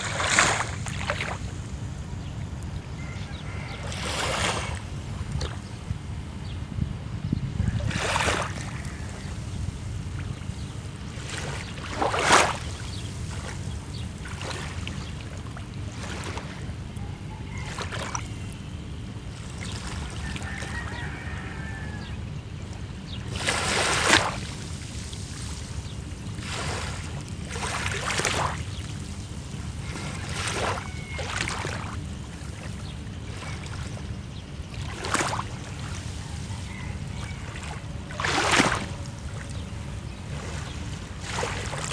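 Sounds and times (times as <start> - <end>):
small waves splashing on shore: 0.0 - 2.2, 3.0 - 5.9, 7.7 - 41.9
low rumble of surf: 0.0 - 41.9.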